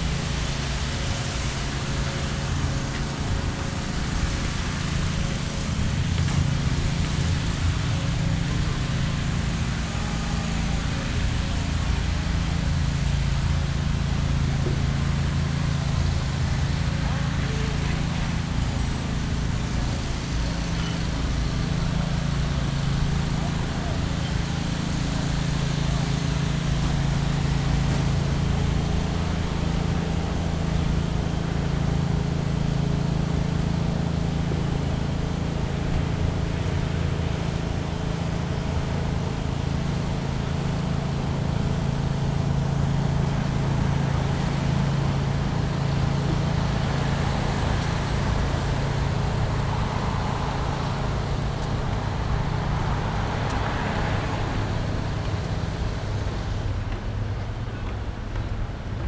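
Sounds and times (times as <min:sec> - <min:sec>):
road traffic hum: 0:00.0 - 0:59.0.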